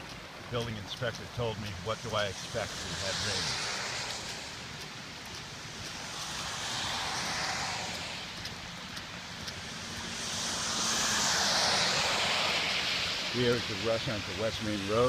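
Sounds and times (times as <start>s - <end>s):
water rushing across road: 0.0s - 15.0s.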